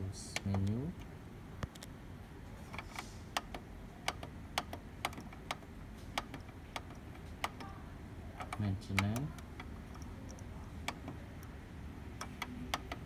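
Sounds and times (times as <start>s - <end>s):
plastic buttons clicking: 0.3s - 1.9s, 2.7s - 7.8s, 8.4s - 11.5s, 12.1s - 13.0s.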